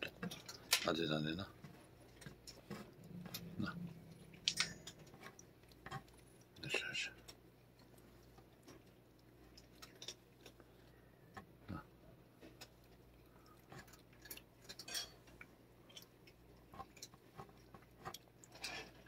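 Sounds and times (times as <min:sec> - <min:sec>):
cat licking food: 0:01.6 - 0:19.0.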